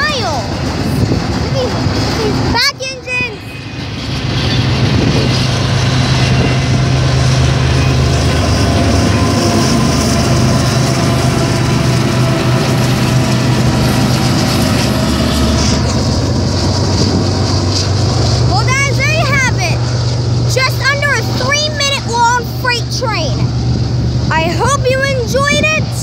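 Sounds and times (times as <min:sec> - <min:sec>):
low drone: 0:00.0 - 0:26.0
train rumbling past: 0:00.0 - 0:26.0.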